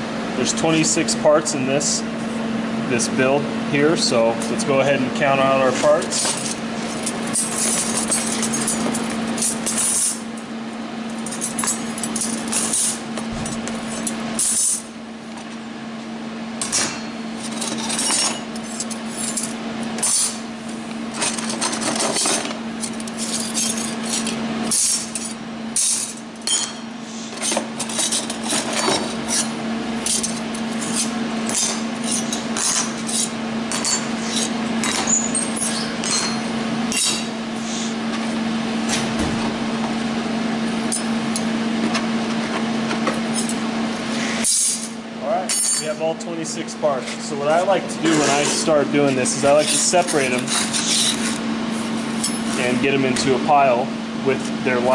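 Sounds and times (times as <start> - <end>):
steady hum: 0.0 - 54.9.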